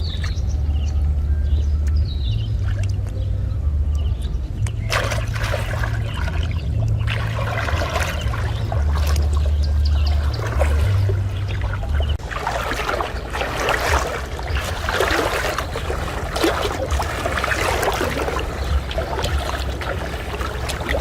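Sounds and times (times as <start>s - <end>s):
low rumble: 0.0s - 21.0s
water splashing and trickling: 0.0s - 21.0s.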